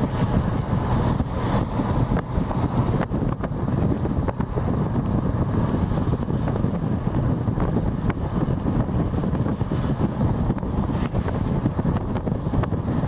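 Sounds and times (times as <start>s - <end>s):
car road noise rumble: 0.0s - 13.0s
wind buffeting microphone: 0.0s - 13.0s.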